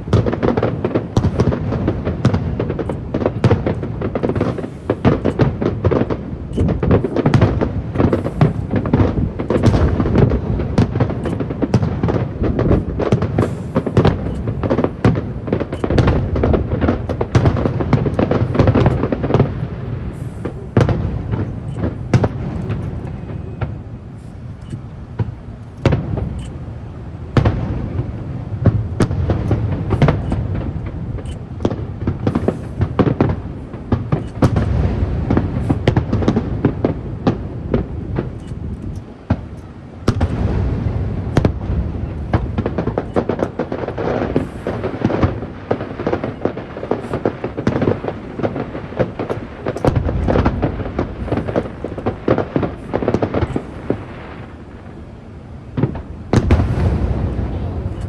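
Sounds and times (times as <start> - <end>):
fireworks booming: 0.0 - 58.0
fireworks crackling: 0.0 - 58.0.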